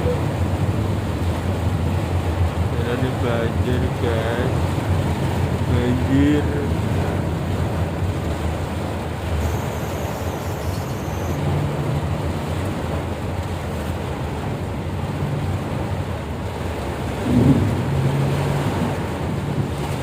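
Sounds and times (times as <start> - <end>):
heavy rain and floodwater: 0.0 - 20.0
vehicle engine running: 0.0 - 20.0.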